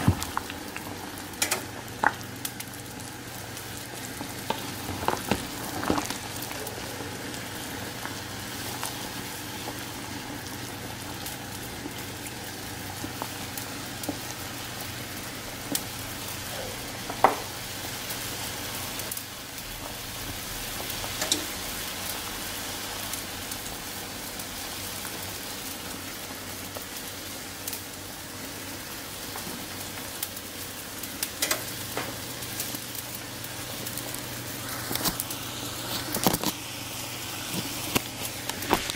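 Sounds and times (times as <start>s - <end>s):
soup boiling with bubbling hiss: 0.0s - 38.9s.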